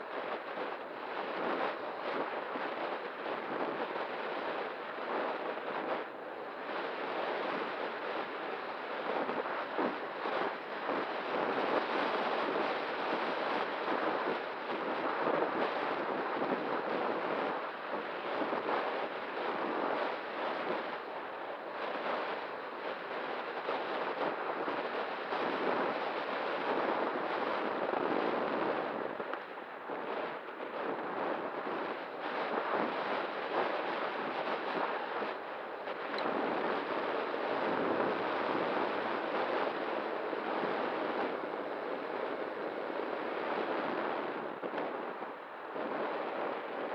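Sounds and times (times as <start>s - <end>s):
faint steady hum: 0.0s - 46.9s
wind rush: 0.0s - 46.9s.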